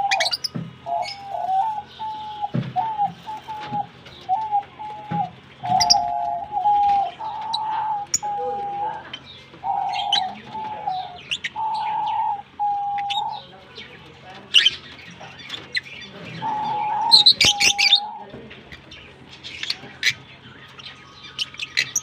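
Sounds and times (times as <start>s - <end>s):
lovebirds chirping: 0.0s - 22.0s.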